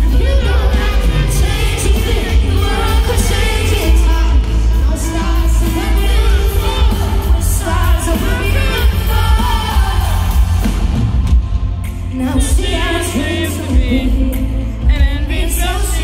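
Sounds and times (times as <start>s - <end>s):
woman singing: 0.0s - 10.9s, 11.9s - 16.0s
live pop band with heavy bass: 0.0s - 16.0s.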